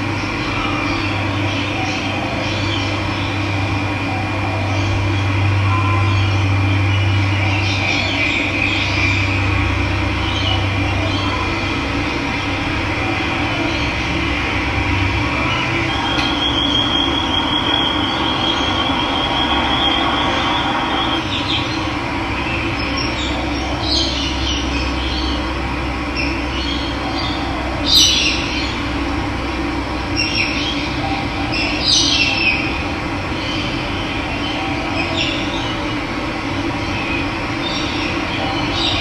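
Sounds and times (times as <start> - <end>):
birds chirping: 0.0 - 29.2, 29.8 - 39.0.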